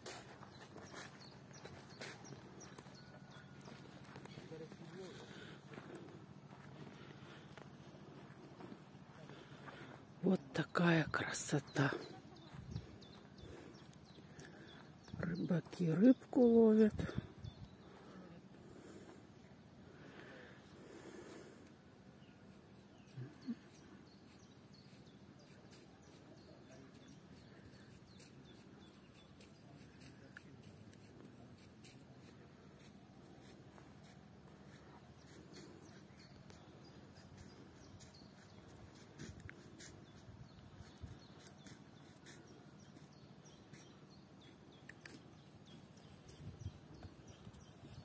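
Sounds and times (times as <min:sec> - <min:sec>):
faint small birds chirping: 0:00.0 - 0:48.0.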